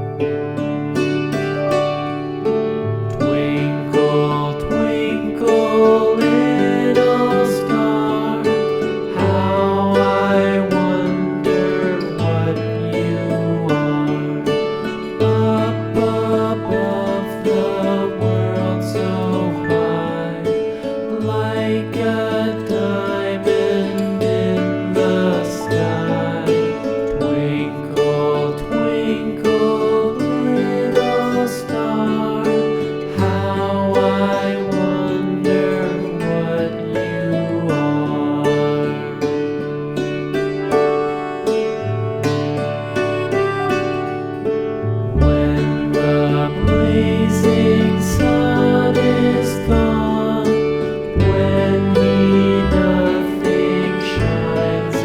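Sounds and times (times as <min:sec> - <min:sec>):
plucked string instrumental music: 0:00.0 - 0:55.0.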